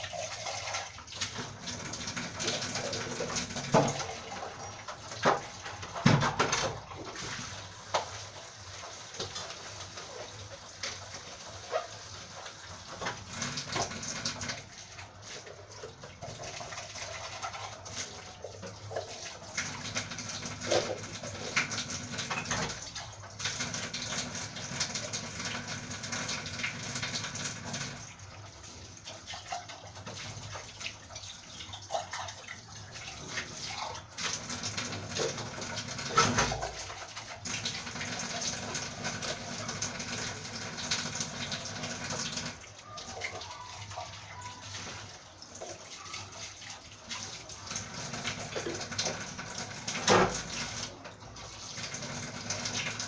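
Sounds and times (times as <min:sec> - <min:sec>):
tap water running into sink: 0:00.0 - 0:53.0.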